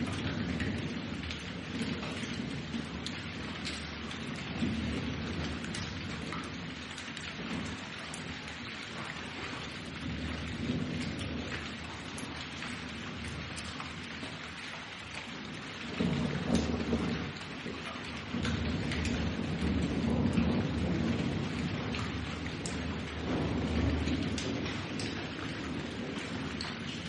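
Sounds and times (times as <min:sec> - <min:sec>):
low rolling thunder: 0:00.0 - 0:14.4, 0:15.5 - 0:27.0
heavy rain: 0:00.0 - 0:27.0.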